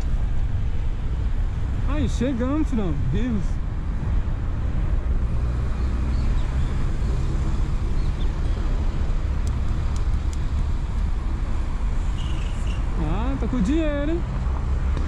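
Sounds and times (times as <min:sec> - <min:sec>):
bicycle road noise: 0:00.0 - 0:15.0.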